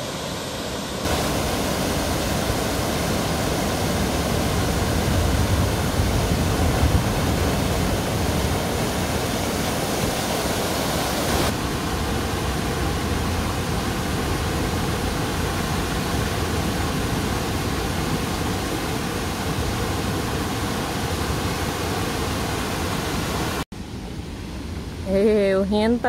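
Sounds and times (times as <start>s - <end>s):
waterfall rushing water: 0.0s - 25.0s.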